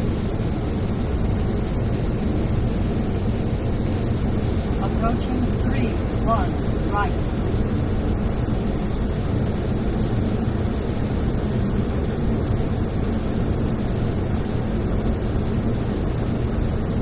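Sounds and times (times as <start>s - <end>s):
cockpit airflow and engine hum: 0.0s - 17.0s.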